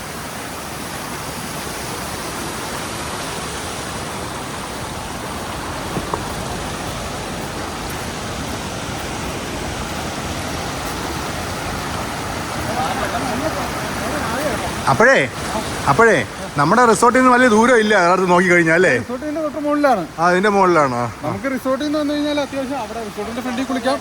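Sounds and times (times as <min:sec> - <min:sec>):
waterfall pouring over rocks: 0:00.0 - 0:24.0.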